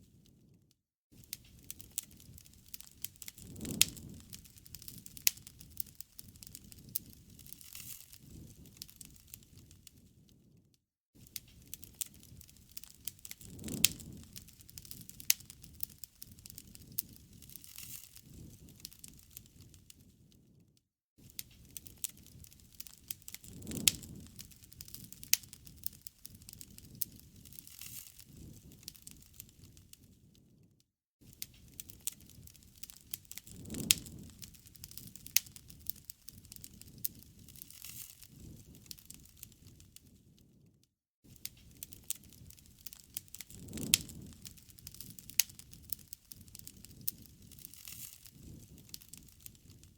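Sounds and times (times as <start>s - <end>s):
campfire crackling and popping: 1.2s - 10.6s, 11.2s - 20.5s, 21.2s - 30.6s, 31.2s - 40.6s, 41.3s - 49.9s
low rush of flame: 1.2s - 10.6s, 11.2s - 20.5s, 21.2s - 30.4s, 31.2s - 40.6s, 41.3s - 49.9s.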